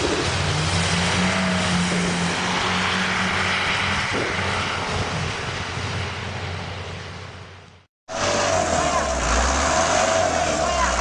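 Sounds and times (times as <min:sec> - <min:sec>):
large vehicle engine humming: 0:00.0 - 0:11.0.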